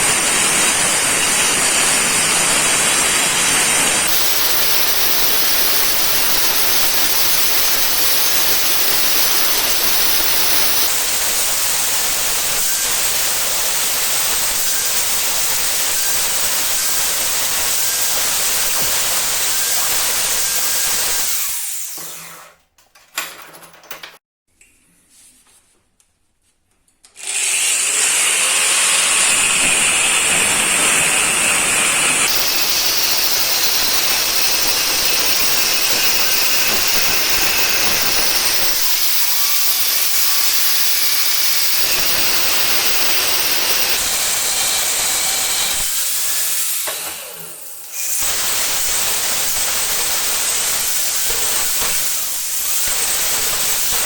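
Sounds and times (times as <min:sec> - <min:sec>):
power tool grinding metal: 0:00.0 - 0:22.5, 0:27.2 - 0:54.0.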